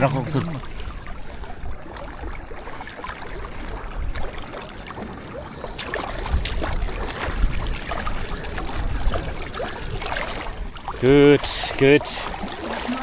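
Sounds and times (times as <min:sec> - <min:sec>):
paddles splashing in water: 0:00.0 - 0:13.0.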